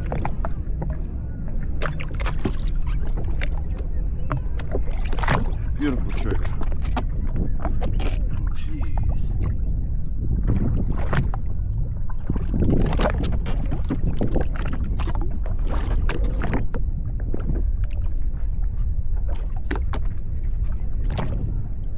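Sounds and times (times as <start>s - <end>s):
water splashing against hull: 0.0s - 21.9s
wind on microphone: 0.0s - 21.9s.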